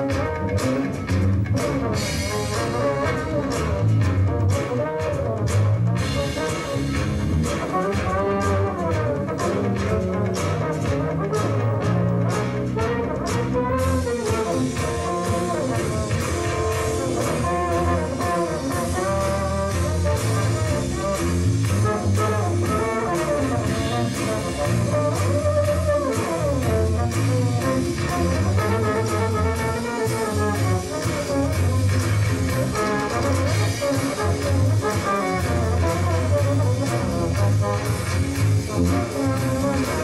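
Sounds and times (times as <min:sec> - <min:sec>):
drums with steady beat: 0:00.0 - 0:40.0
electric bass line: 0:00.0 - 0:40.0
jazz fusion band playing: 0:00.0 - 0:40.0.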